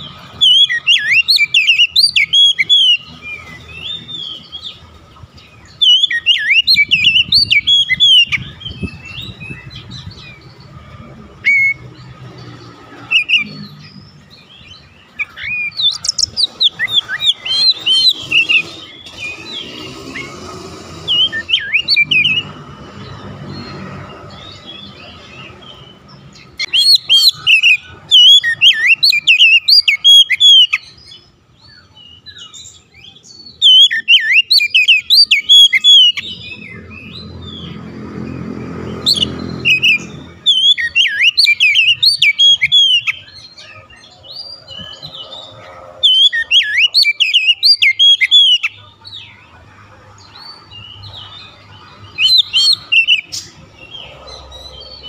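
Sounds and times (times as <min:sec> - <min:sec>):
bird singing whistles and chirps: 0:00.0 - 0:04.8, 0:05.6 - 0:10.6, 0:13.0 - 0:20.4, 0:21.0 - 0:37.8, 0:39.0 - 0:49.2, 0:50.2 - 0:55.0.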